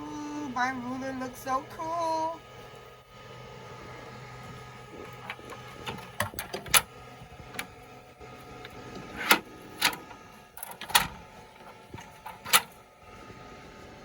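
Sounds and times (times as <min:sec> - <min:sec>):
laser cutter fan hum and whirring: 0:00.0 - 0:14.0.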